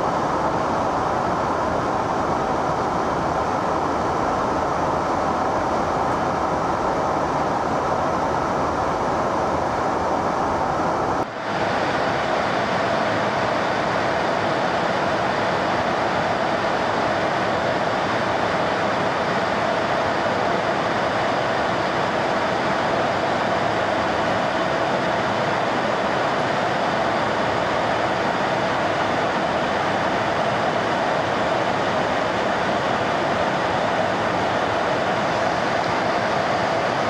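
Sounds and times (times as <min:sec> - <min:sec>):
jet engine drone in cabin: 0:00.0 - 0:37.0.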